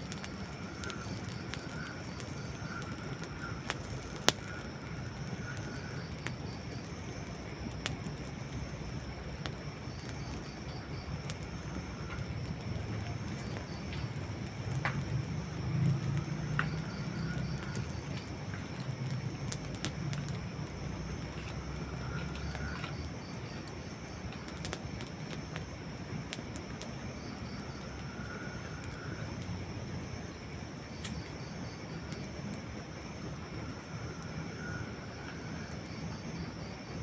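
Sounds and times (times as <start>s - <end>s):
campfire crackling and popping: 0.0s - 37.0s
fire hissing: 0.0s - 37.0s.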